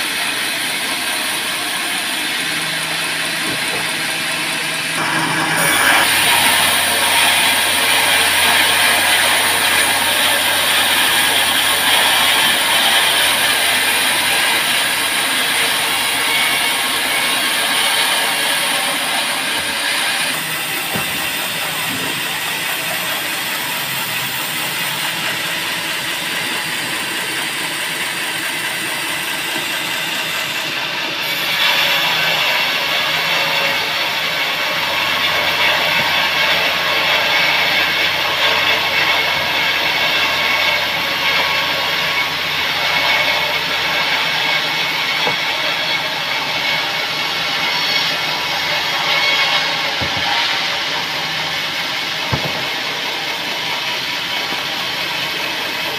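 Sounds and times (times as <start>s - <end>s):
band saw cutting log: 0.0s - 55.9s.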